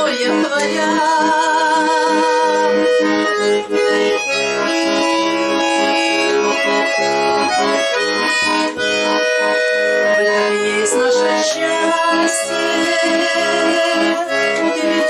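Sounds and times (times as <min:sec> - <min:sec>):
button accordion melody: 0:00.0 - 0:15.0.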